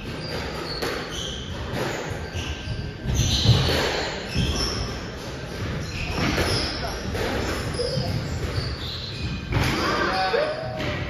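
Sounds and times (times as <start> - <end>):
shoes squeaking on court floor: 0.0 - 11.0
squash ball hitting rackets and walls: 0.0 - 11.0.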